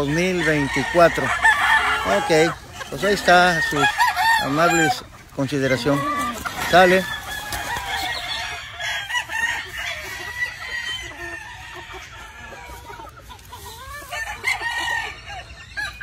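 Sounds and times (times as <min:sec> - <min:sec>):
chickens clucking and squawking: 0:00.0 - 0:16.0
roosters crowing: 0:00.0 - 0:16.0.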